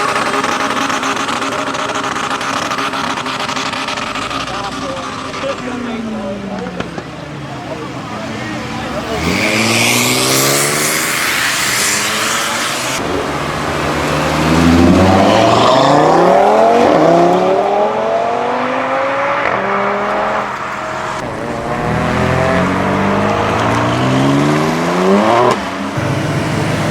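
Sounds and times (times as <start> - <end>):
cars accelerating hard: 0.0 - 26.9.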